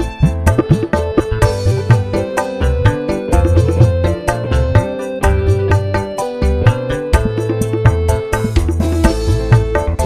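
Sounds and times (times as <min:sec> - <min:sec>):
hand drum beat: 0:00.0 - 0:10.0
sustained keyboard notes: 0:00.0 - 0:10.0.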